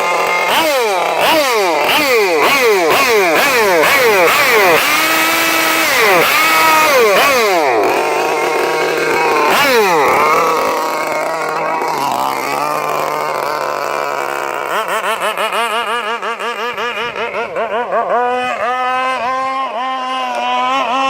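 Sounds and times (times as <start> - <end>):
model boat engine revving: 0.0 - 21.0.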